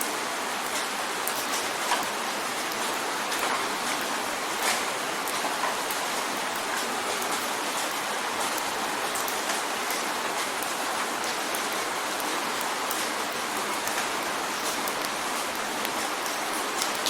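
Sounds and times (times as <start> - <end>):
rain on a windowpane: 0.0 - 17.0.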